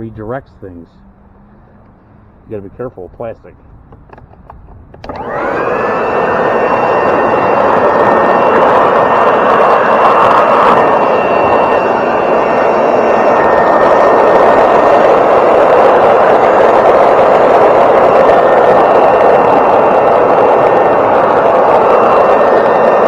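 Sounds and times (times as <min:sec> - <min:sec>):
electric leaf blower whine: 0:03.9 - 0:23.0.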